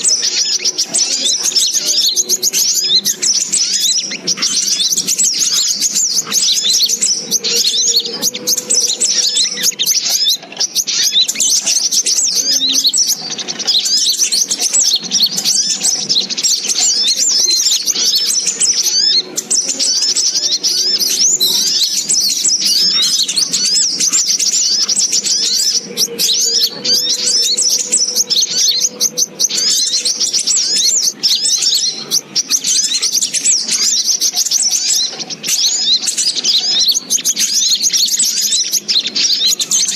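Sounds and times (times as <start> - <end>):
high-pitched bird chirping and trilling: 0.0 - 39.9.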